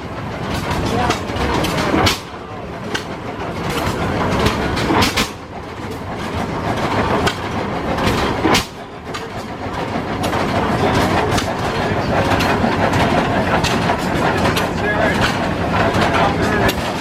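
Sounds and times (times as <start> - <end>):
mechanical clatter: 0.0 - 17.0
tractor engine running: 0.0 - 17.0.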